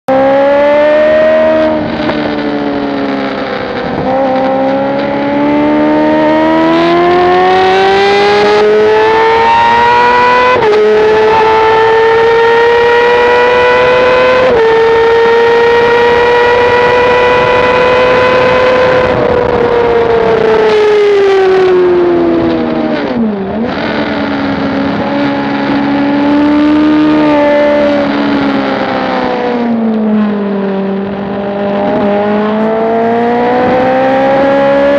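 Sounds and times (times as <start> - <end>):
motorcycle engine at full throttle: 0.1 - 34.9
wind noise: 0.1 - 34.9.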